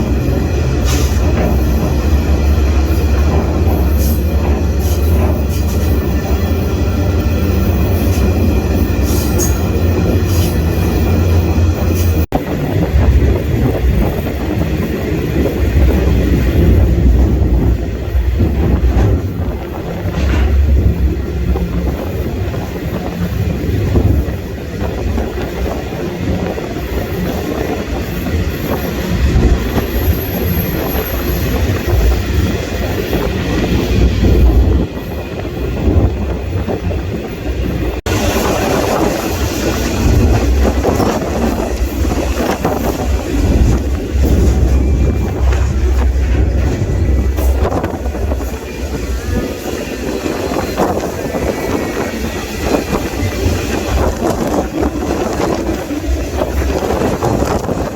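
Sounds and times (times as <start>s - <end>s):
clattering train wheels: 0.0s - 57.9s
freight train rumble: 0.0s - 57.9s.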